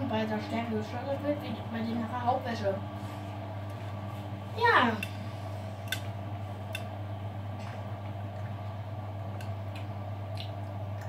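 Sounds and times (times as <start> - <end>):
washing machine humming: 0.0 - 11.0.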